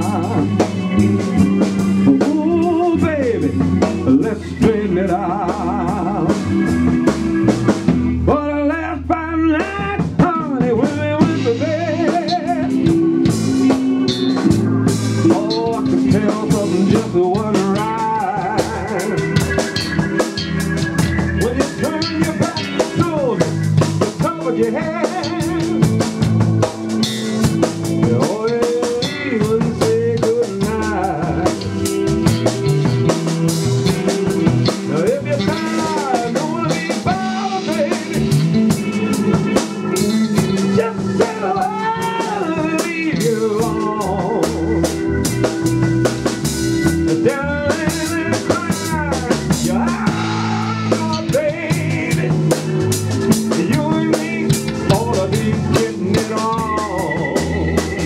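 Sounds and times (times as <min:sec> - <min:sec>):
drum kit beat: 0:00.0 - 0:58.0
electric bass: 0:00.0 - 0:58.0
lead melody with bending notes: 0:00.0 - 0:58.0.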